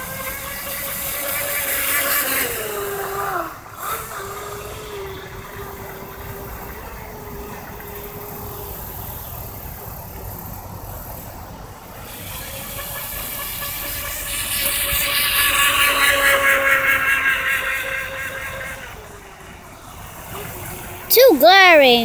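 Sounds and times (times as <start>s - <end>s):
rc boat motor whining: 0.0s - 21.0s.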